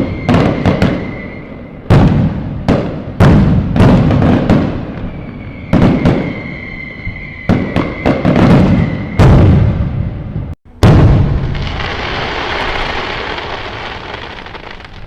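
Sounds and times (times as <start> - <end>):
high firework whistle: 0.0 - 2.8, 3.8 - 10.1, 11.2 - 15.0
fireworks bangs: 0.0 - 15.0.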